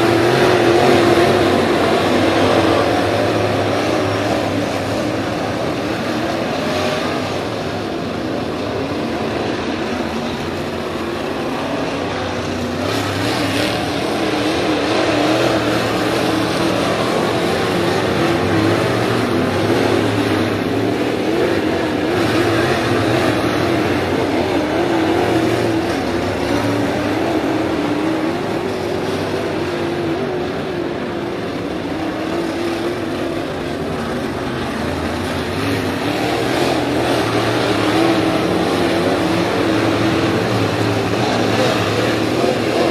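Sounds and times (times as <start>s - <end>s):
race car engines droning: 0.0s - 42.9s.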